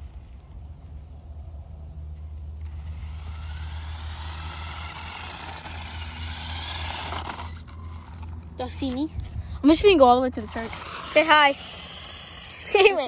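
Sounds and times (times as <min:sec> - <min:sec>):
steady low rumble: 0:00.0 - 0:13.0
vehicle approaching: 0:00.0 - 0:13.0.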